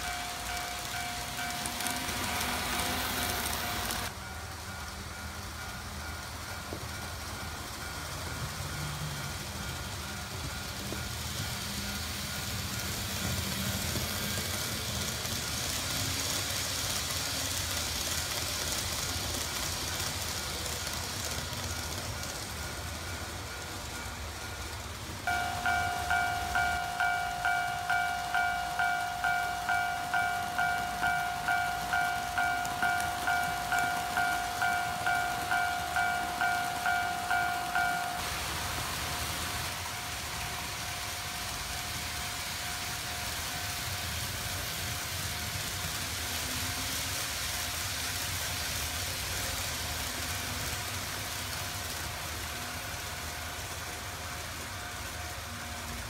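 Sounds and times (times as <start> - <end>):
model trains whirring and rattling: 0.0 - 56.0.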